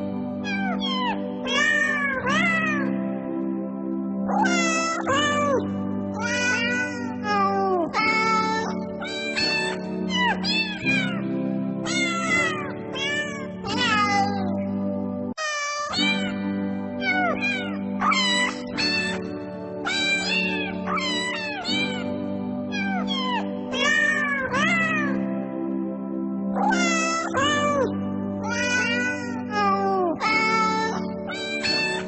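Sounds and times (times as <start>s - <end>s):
background music with held notes: 0.0s - 32.0s
cats meowing: 0.4s - 3.0s, 4.3s - 14.6s, 15.4s - 22.1s, 22.7s - 25.3s, 26.6s - 32.0s.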